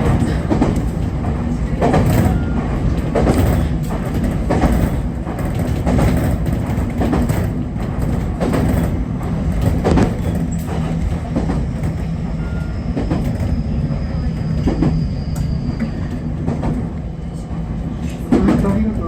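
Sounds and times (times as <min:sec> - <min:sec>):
train running low rumble: 0:00.0 - 0:19.0.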